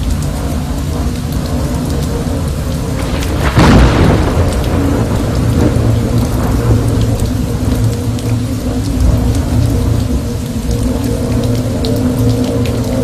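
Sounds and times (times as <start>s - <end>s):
low thunder rumble: 0.0s - 13.0s
steady rain: 0.0s - 13.0s
thunder clap: 0.3s - 13.0s.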